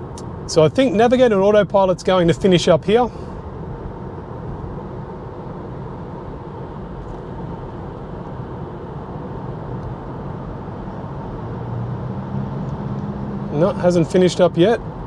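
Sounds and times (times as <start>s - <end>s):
road and tyre noise in car: 0.0s - 15.0s.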